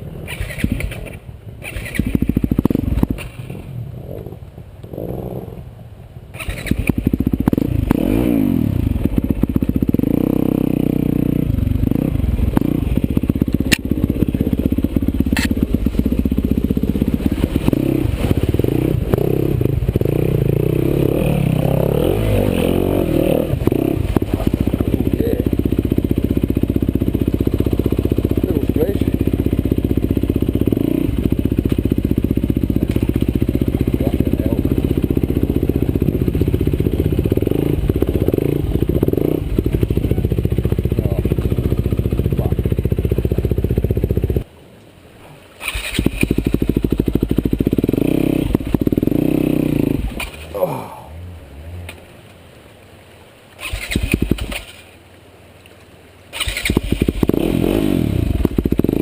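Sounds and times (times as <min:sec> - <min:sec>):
motorcycle engine revving: 0:00.0 - 0:44.5, 0:45.6 - 0:52.1, 0:53.5 - 0:55.0, 0:56.3 - 0:59.0.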